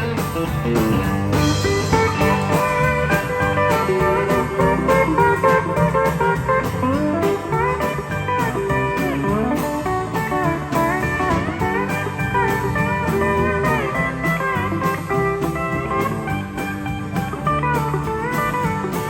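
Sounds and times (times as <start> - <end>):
country band backing: 0.0 - 19.0
guitar lead melody: 0.0 - 19.0.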